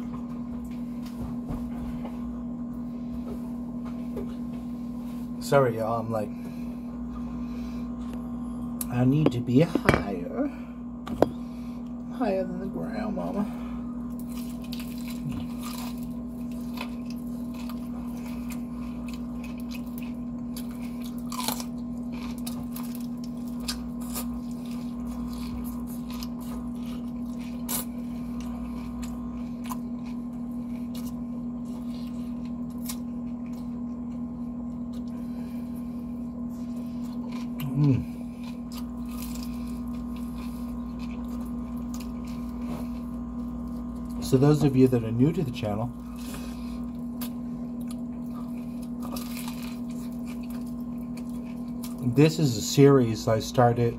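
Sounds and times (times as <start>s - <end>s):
crunching and chewing fried chicken: 0.0s - 53.9s
low electrical hum: 0.0s - 53.9s.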